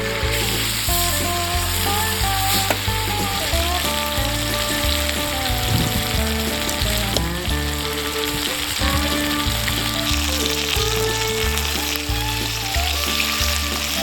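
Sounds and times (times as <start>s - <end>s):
background music: 0.0s - 14.0s
chicken sizzling over fire: 0.0s - 14.0s.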